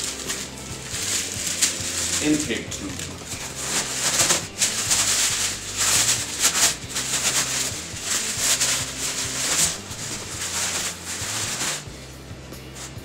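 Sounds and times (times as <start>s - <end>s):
paper crinkling and tearing: 0.0s - 11.9s, 12.7s - 13.0s.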